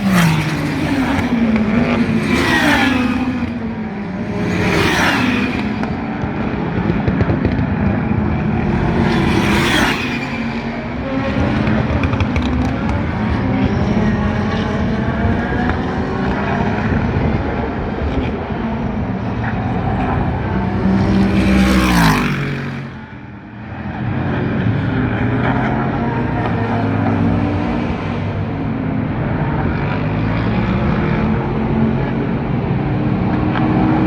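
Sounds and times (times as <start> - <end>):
race cars passing at speed: 0.0 - 34.0.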